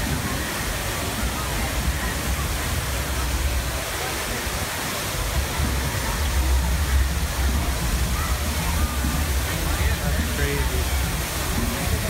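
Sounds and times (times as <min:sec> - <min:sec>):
waterfall rushing and splashing: 0:00.0 - 0:12.0.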